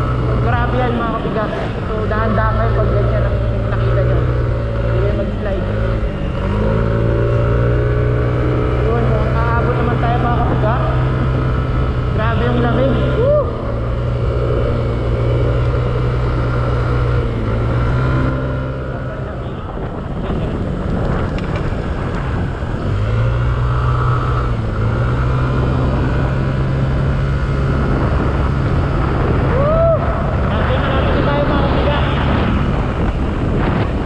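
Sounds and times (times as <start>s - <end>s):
scooter engine running: 0.0s - 34.0s.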